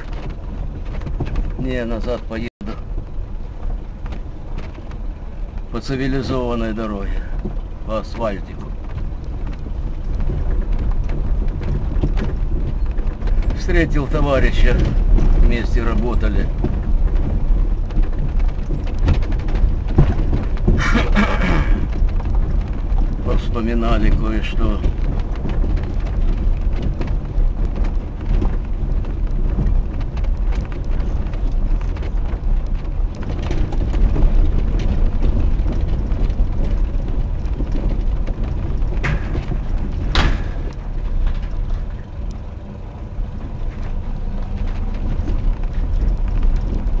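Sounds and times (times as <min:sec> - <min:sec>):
knocks from rough road: 0:00.0 - 0:47.0
vehicle rumbling and rattling: 0:00.0 - 0:47.0.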